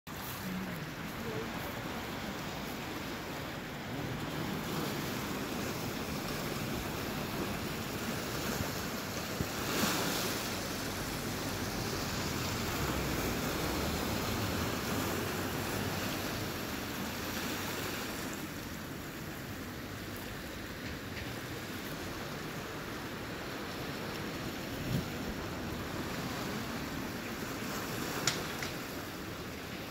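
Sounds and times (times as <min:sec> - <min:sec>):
waves breaking against rocks: 0:00.1 - 0:29.9.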